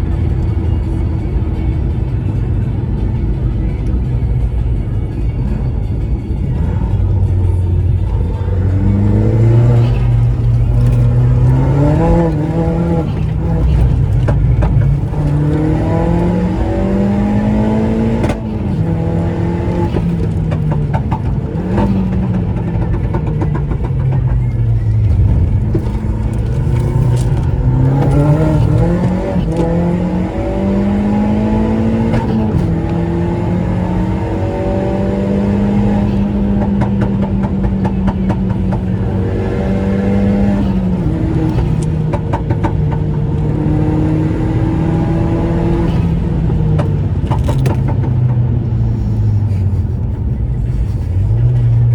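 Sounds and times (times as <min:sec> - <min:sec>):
turbocharged car engine revving: 0:05.2 - 0:51.9.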